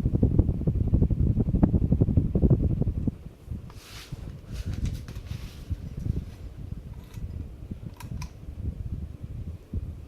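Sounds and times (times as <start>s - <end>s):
ceiling fan wind noise rumble: 0.0s - 10.0s.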